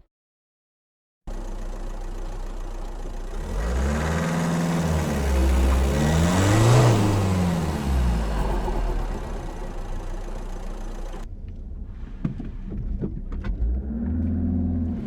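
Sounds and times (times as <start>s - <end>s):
exhaust pops and crackles: 1.3s - 14.4s
car engine revving: 1.3s - 15.0s.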